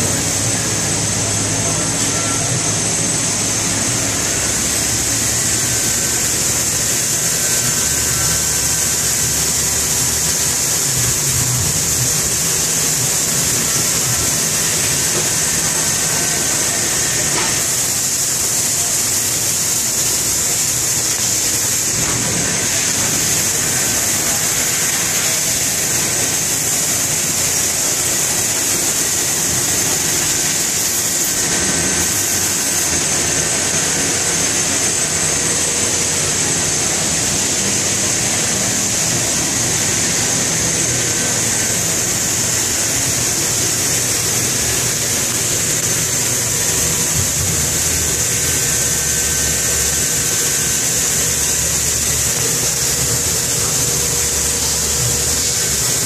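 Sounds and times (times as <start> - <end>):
cnc mill running: 0.0 - 56.0.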